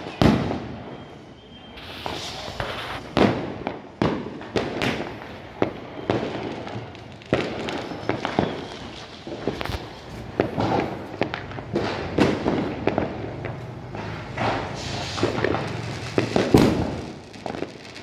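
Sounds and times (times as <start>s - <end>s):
fireworks and firecrackers banging: 0.0s - 18.0s.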